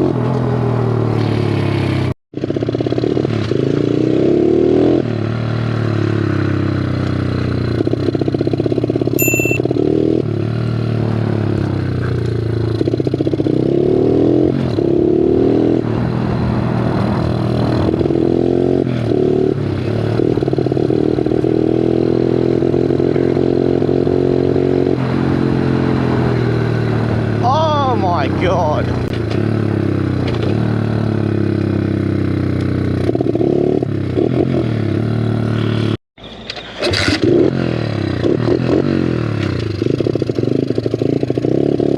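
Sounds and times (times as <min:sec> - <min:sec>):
motorbike engine revving: 0:00.0 - 0:36.0, 0:36.6 - 0:41.9.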